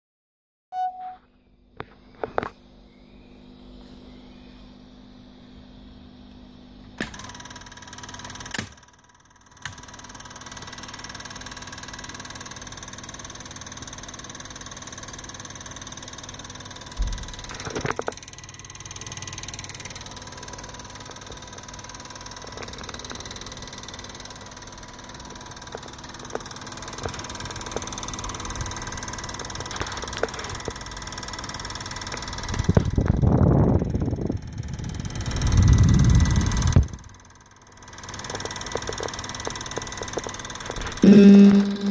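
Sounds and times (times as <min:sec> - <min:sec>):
film projector whirring: 0:04.7 - 0:41.9.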